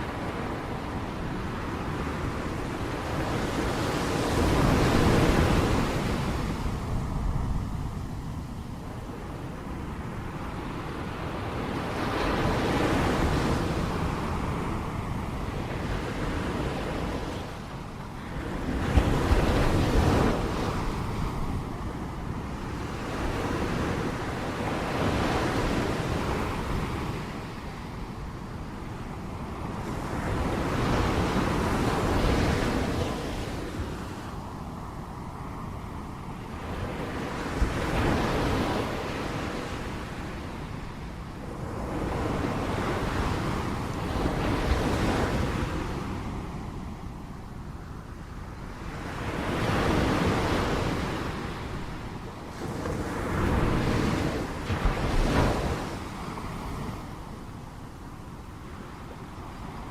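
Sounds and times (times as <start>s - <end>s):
ocean waves crashing on shore: 0.0s - 59.9s
wind on microphone: 0.0s - 59.9s.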